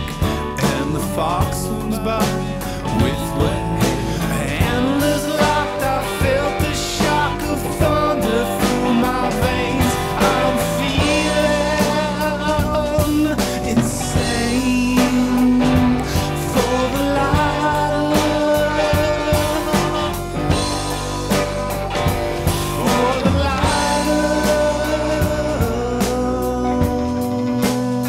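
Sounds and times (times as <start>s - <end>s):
rock song with guitar and drums: 0.0s - 28.0s.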